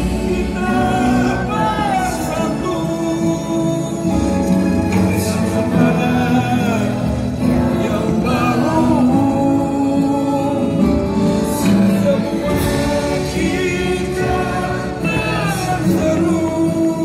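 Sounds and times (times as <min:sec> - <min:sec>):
choir singing with accompaniment: 0:00.0 - 0:17.0.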